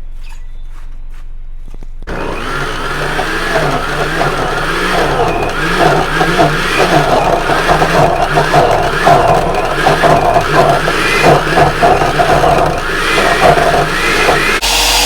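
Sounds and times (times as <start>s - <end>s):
blender motor chopping: 2.1s - 15.0s.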